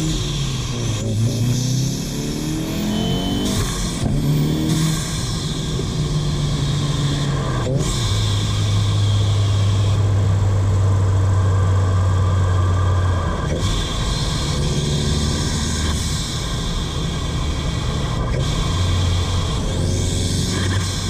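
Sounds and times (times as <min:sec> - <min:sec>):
turbocharged engine drone: 0:00.0 - 0:21.0.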